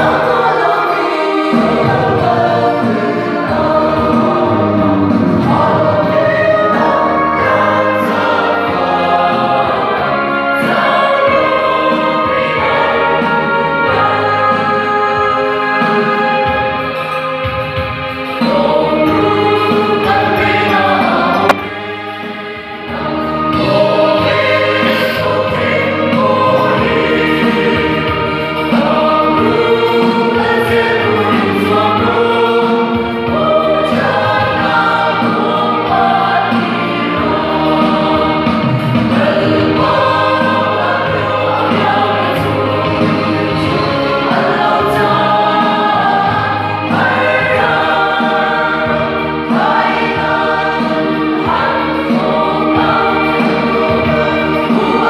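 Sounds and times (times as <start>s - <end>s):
church choir singing a hymn: 0.0s - 55.0s.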